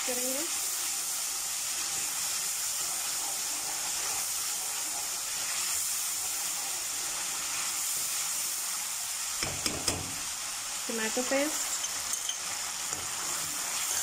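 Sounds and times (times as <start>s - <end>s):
sauce sizzling in hot oil: 0.0s - 14.0s.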